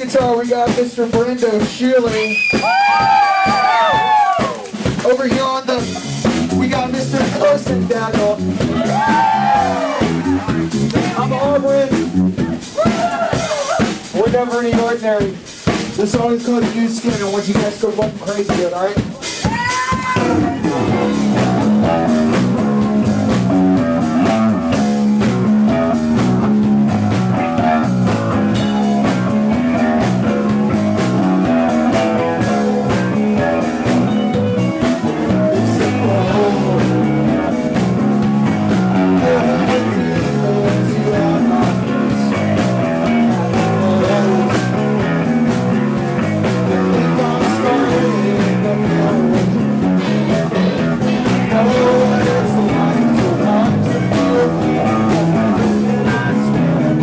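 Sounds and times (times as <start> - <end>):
guitars: 0.0 - 14.2, 19.1 - 57.0
bass guitar: 0.0 - 57.0
drum kit: 0.0 - 57.0.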